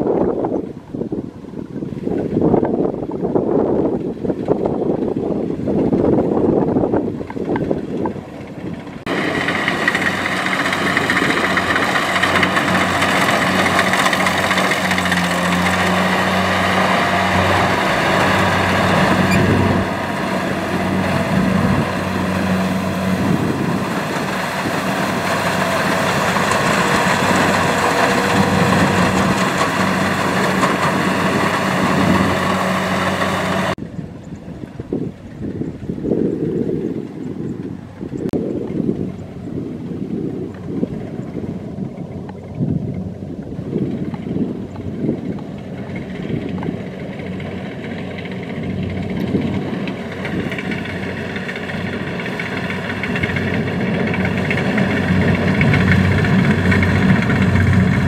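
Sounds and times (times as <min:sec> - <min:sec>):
combine harvester engine running: 0:03.8 - 0:33.8, 0:38.8 - 0:58.0.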